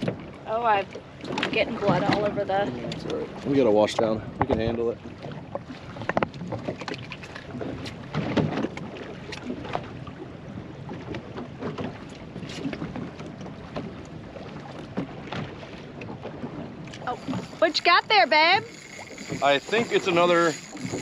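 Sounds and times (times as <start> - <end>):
knocks and taps on boat: 0.0 - 21.0
water lapping at hull: 0.0 - 21.0.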